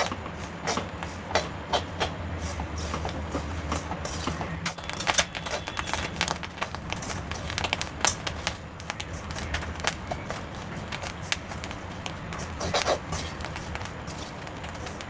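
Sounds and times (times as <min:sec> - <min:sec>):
seeds crackling in a pan: 0:02.3 - 0:15.0.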